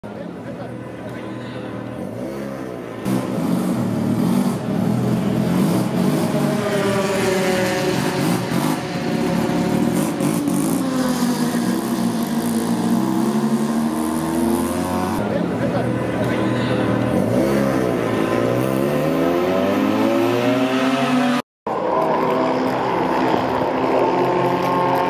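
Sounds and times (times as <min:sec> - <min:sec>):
race car engine revving: 0:01.9 - 0:25.0.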